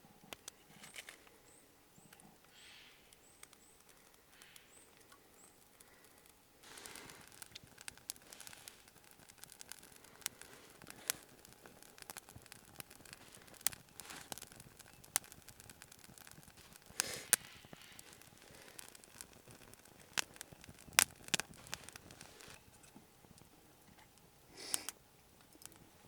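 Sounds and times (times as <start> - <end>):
campfire crackling: 0.0 - 26.0
rustling: 3.8 - 24.9.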